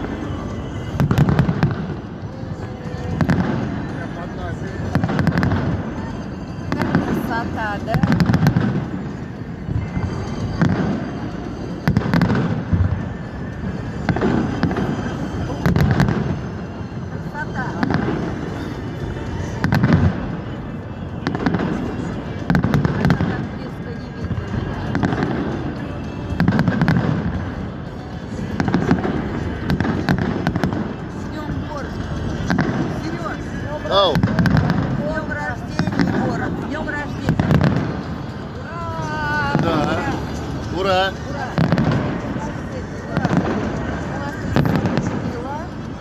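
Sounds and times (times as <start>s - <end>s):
fireworks bangs: 0.0s - 46.0s
low rumble of fireworks bursts: 0.0s - 46.0s.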